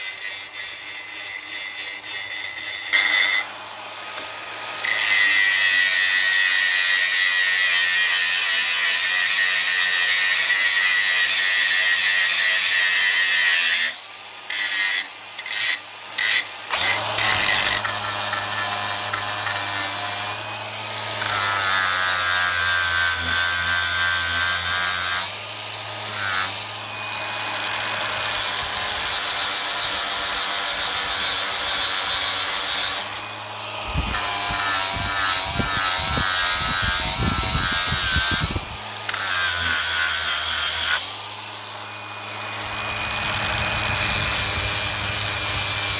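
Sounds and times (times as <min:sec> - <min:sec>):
angle grinder grinding metal: 0:00.0 - 0:45.9.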